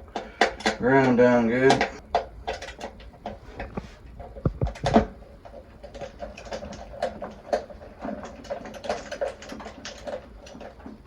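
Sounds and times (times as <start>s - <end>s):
clicks and scrapes of wiring work: 0.0s - 11.0s.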